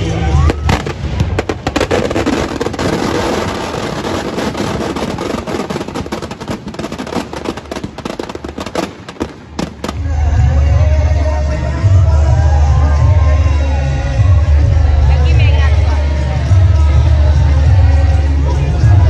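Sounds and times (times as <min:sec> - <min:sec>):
loud music with heavy bass: 0:00.0 - 0:05.8, 0:09.2 - 0:19.0
firecrackers crackling: 0:00.0 - 0:19.0.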